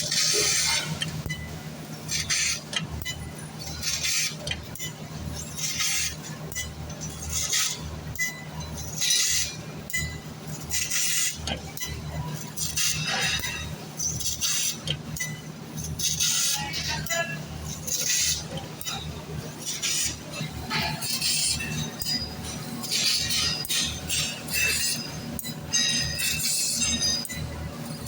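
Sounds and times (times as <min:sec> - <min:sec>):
laser cutter hissing and crackling: 0:00.0 - 0:01.3, 0:02.1 - 0:28.0.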